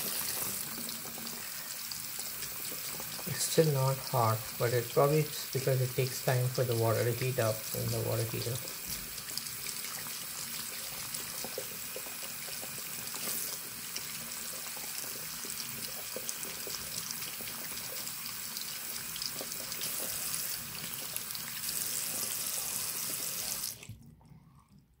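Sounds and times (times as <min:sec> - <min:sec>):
water running from faucet: 0:00.0 - 0:23.9.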